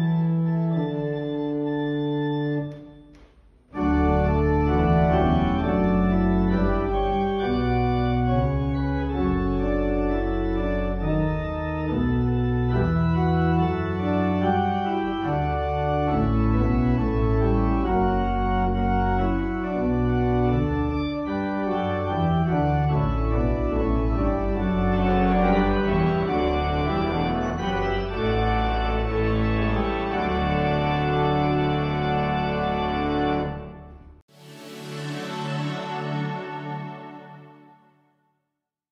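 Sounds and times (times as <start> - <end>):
church organ chords: 0.0 - 38.0.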